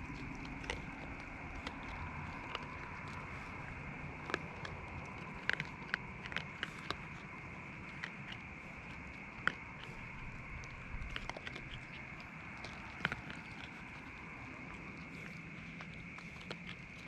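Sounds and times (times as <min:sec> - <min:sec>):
crackling dry leaves: 0:00.0 - 0:17.0.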